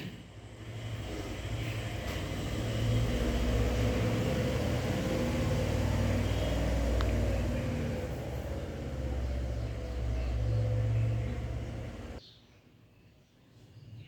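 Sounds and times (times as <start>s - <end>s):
low steady rumble: 0.3s - 12.2s.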